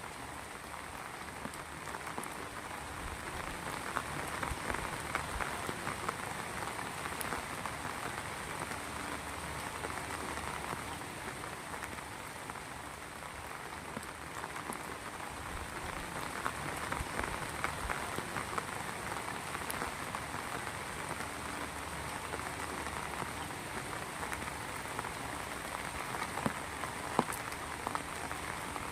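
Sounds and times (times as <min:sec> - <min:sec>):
heavy rain hissing: 0:00.0 - 0:28.9
raindrops ticking on surface: 0:00.0 - 0:28.9.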